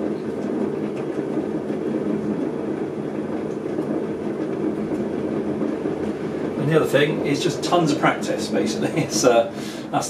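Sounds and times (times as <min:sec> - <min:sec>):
potter's wheel humming: 0:00.0 - 0:10.0.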